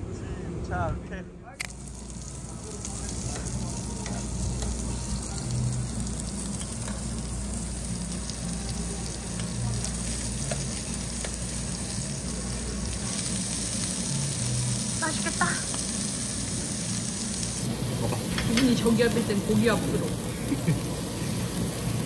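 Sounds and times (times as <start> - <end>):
pork sizzling on grill plate: 1.6 - 22.0.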